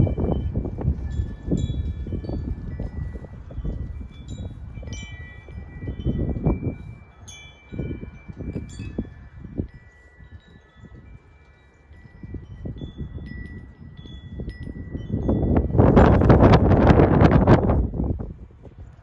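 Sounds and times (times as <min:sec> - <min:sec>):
wind chimes ringing: 0:00.0 - 0:19.0
wind rumbling on microphone: 0:00.0 - 0:19.0.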